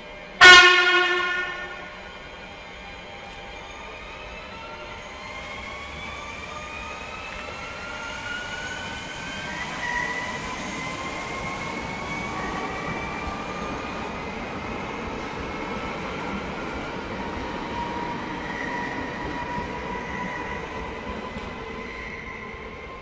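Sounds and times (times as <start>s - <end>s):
train traction whine: 0.0s - 23.0s.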